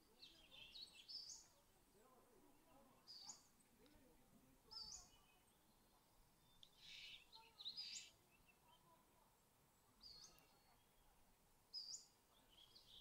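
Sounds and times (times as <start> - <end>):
faint bird chirps: 0.0 - 1.7, 2.7 - 3.7, 4.7 - 13.0.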